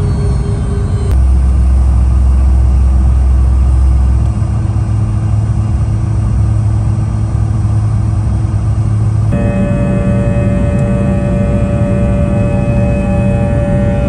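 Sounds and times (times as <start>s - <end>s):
high engine whine: 0.0s - 14.0s
jet engines droning: 0.0s - 14.0s.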